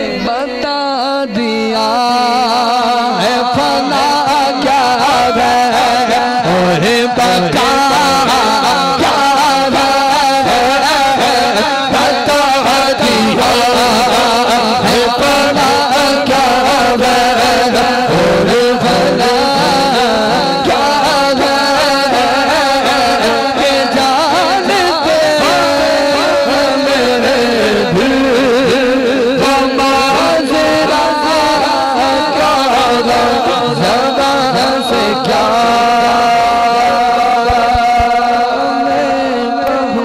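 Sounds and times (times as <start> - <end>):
man singing into a microphone: 0.0 - 40.0.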